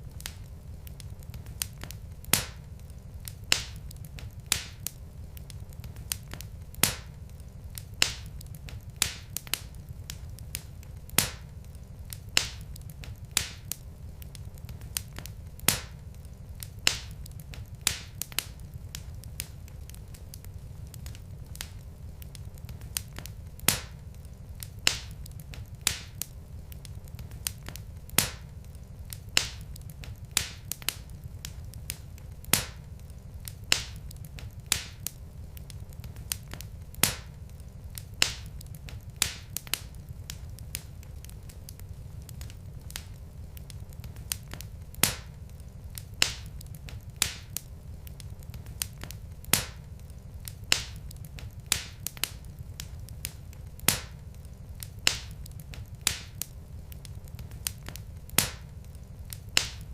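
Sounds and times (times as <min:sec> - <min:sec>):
low steady rumble: 0:00.0 - 0:59.9
wood fire crackling: 0:00.0 - 0:59.9.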